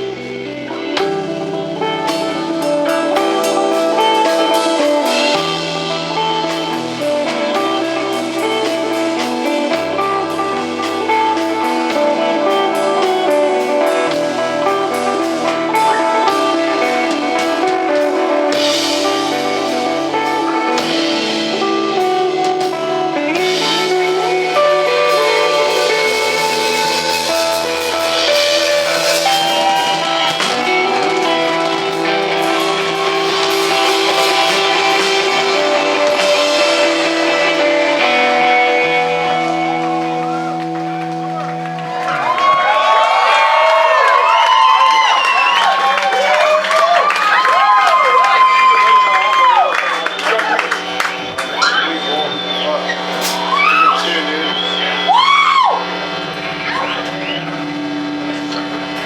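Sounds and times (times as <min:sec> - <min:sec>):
bass notes: 0:00.0 - 0:47.0, 0:49.4 - 0:59.0
drums and cymbals: 0:00.0 - 0:59.0
electric guitar melody: 0:00.0 - 0:59.0.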